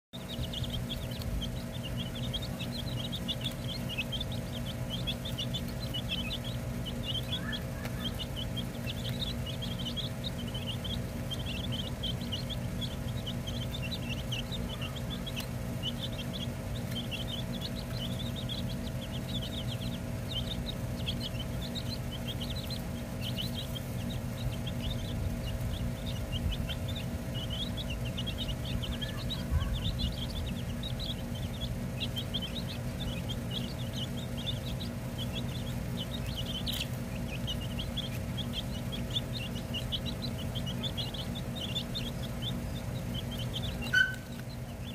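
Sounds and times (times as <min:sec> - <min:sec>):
baby chicks peeping: 0:00.2 - 0:44.9
steady low hum: 0:00.2 - 0:44.9.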